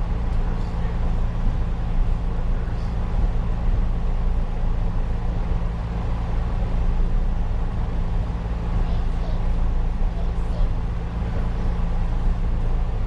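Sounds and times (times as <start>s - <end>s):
railcar low hum: 0.0s - 13.0s
wheel and rail rumble: 0.0s - 13.0s.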